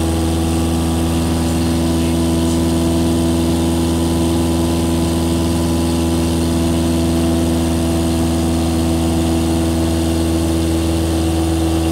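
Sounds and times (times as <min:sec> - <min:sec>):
airplane engine and propeller drone: 0:00.0 - 0:11.9.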